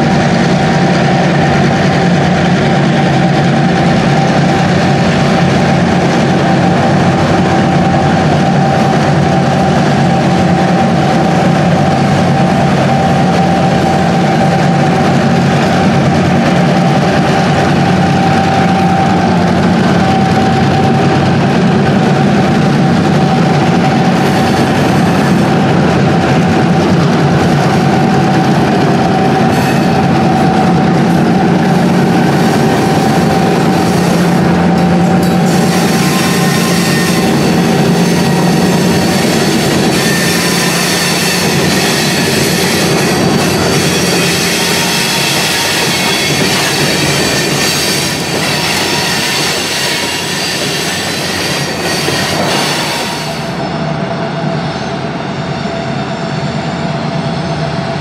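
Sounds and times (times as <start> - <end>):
freight cars rolling on rails: 0.0 - 55.2
diesel locomotive engines running: 0.0 - 58.0.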